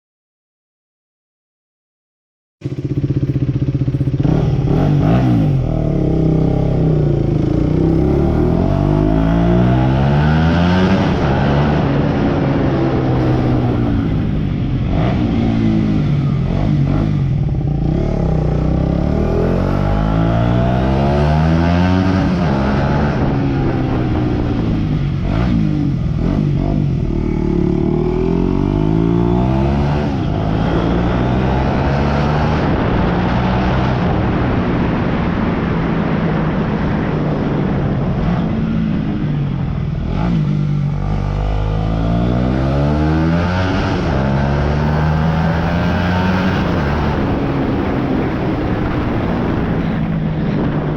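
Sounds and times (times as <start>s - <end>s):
motorcycle engine revving: 2.6s - 50.8s.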